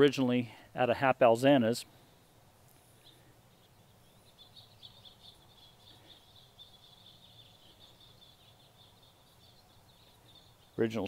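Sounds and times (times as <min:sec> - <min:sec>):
low background hum: 0:00.0 - 0:11.0
faint high bird chirping: 0:00.8 - 0:11.0.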